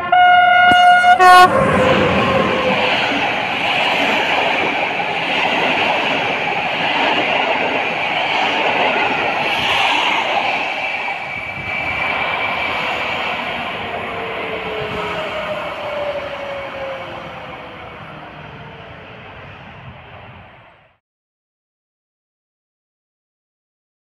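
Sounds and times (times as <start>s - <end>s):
train coaches rolling past: 0.0s - 21.0s.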